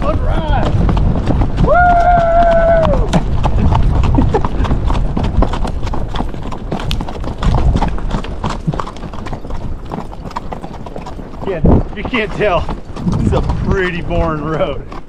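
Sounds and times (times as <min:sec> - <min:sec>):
hooves clip-clopping on gravel road: 0:00.0 - 0:15.0.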